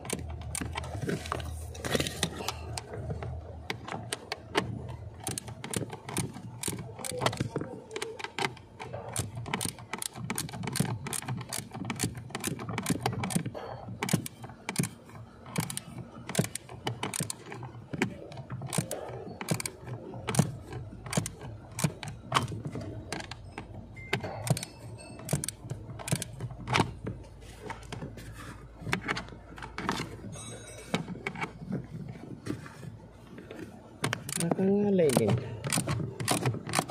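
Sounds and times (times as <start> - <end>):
small clicks and rattles: 0.0 - 36.9.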